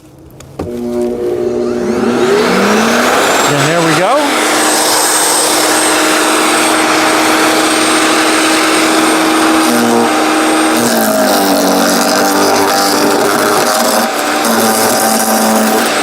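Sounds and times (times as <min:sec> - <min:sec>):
wood chipper running: 0:00.5 - 0:16.0.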